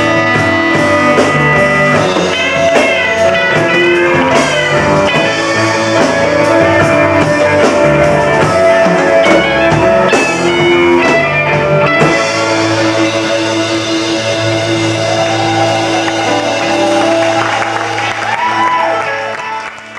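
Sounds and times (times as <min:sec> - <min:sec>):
drum kit hits: 0:00.0 - 0:18.8
electric guitar sustained notes: 0:00.0 - 0:19.9.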